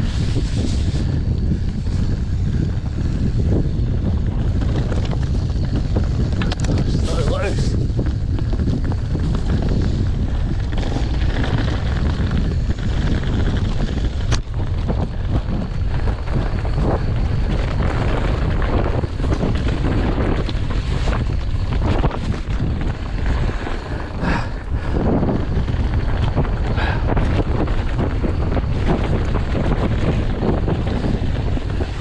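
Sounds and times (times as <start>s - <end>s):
tyres rumbling on dirt trail: 0.0s - 32.0s
wind buffeting microphone: 0.0s - 32.0s.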